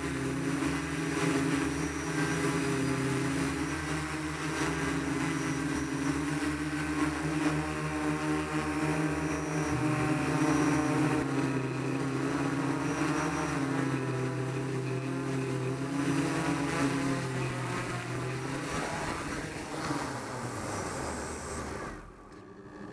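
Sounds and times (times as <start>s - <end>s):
drone motors and propellers humming: 0.0s - 22.9s.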